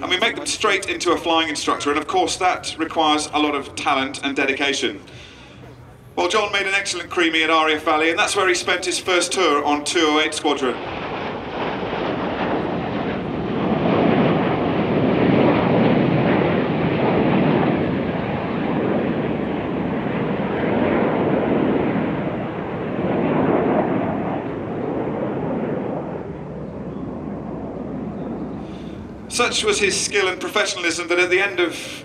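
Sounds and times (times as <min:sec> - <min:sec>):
jet engines roaring overhead: 0:00.0 - 0:32.0.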